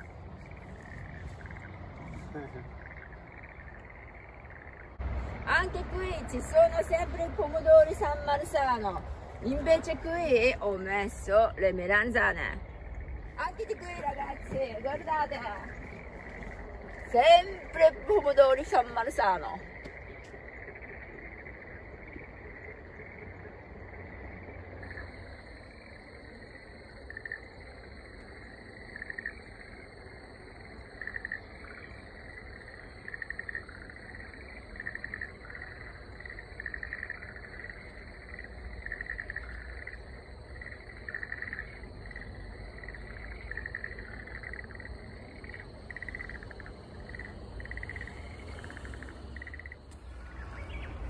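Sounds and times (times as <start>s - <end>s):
frogs croaking: 0.0s - 51.0s.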